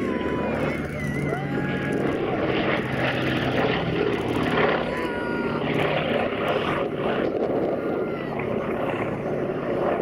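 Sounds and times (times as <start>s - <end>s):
propeller plane flying past: 0.0s - 10.0s.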